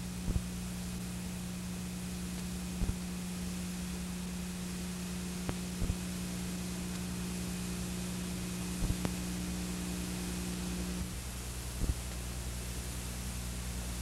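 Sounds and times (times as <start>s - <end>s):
low electrical hum: 0.0s - 14.0s
tape hiss: 0.0s - 14.0s.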